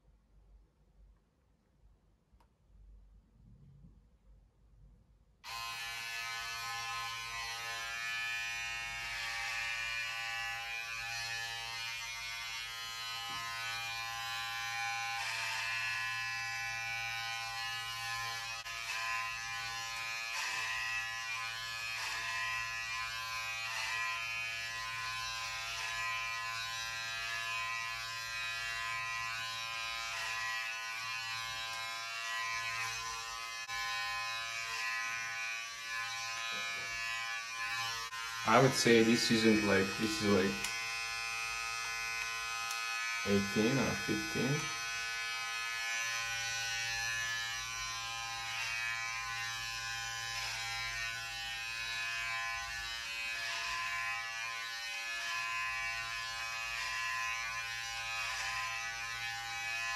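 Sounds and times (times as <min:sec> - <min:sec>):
electric hair clippers buzzing: 0:05.4 - 0:59.9.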